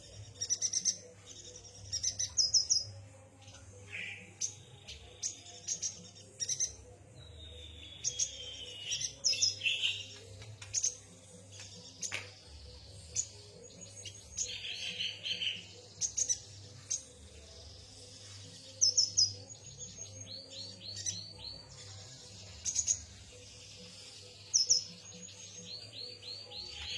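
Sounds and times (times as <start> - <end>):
bird chirping and twittering: 0.0 - 26.9.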